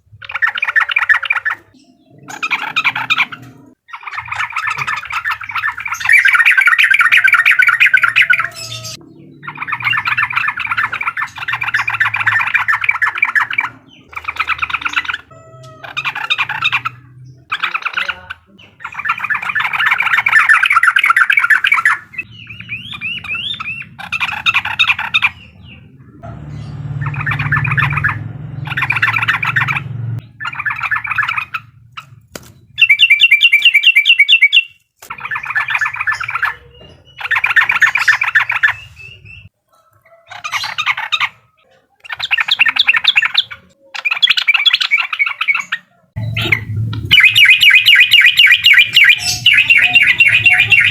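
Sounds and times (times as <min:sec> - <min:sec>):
bulbul chattering calls: 0:00.3 - 0:39.5, 0:42.0 - 0:50.9.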